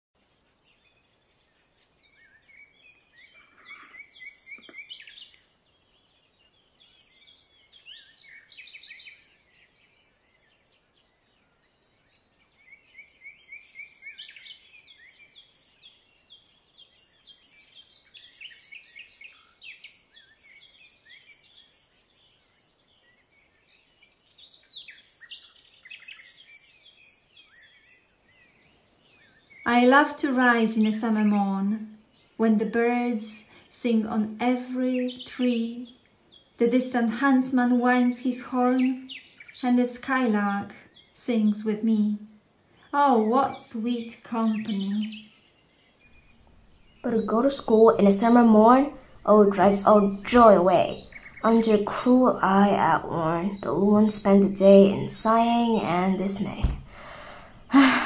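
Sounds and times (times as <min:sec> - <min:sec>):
songbirds chirping and trilling: 0:00.2 - 0:58.0.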